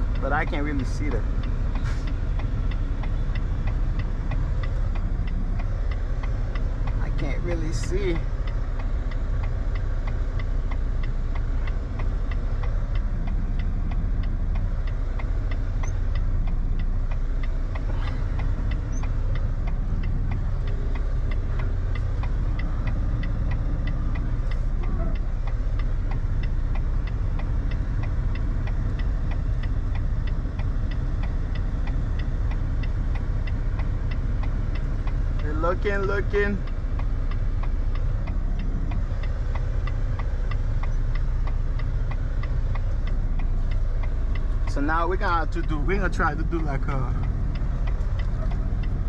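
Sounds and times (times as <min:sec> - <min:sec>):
diesel truck engine humming: 0:00.0 - 0:49.0
fast even ticking: 0:00.0 - 0:49.0.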